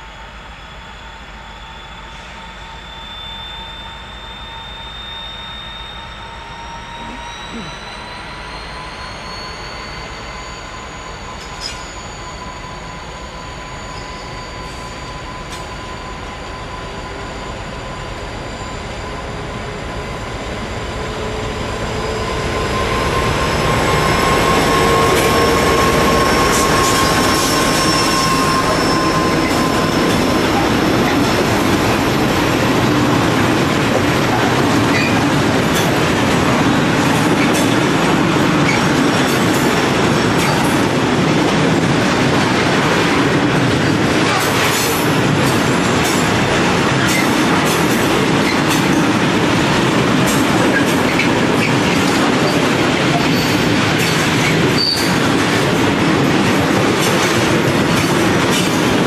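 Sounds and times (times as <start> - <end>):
diesel locomotive engine whine: 0.0 - 59.0
freight wagons wheel and rail noise: 0.0 - 59.0.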